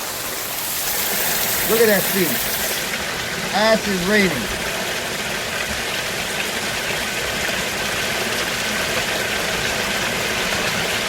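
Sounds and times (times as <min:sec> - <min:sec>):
heavy rain: 0:00.0 - 0:11.0
water rushing through drain outlet: 0:00.0 - 0:11.0.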